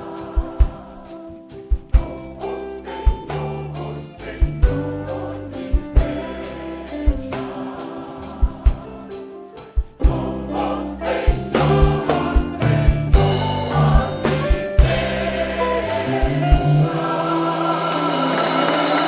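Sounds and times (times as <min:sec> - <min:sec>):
choir singing gospel: 0:00.0 - 0:19.0
instrumental accompaniment with beat: 0:00.0 - 0:19.0.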